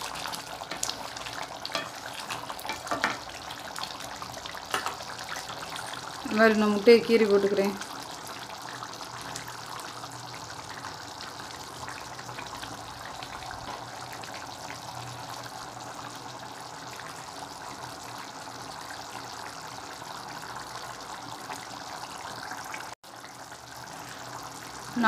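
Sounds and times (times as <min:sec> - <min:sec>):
thick gravy boiling in a pot: 0:00.0 - 0:25.0.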